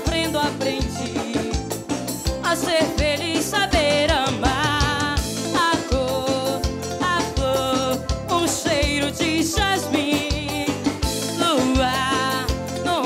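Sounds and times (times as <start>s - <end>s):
live band playing dance music: 0.0s - 13.0s.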